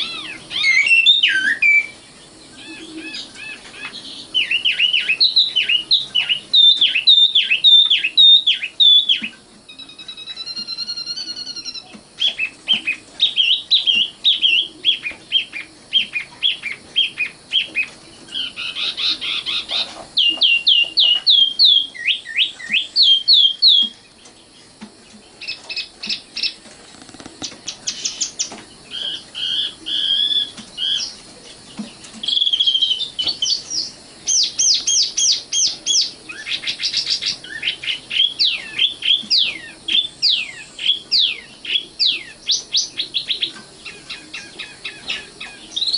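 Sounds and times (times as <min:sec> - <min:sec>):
nightingale singing: 0:00.0 - 0:45.9.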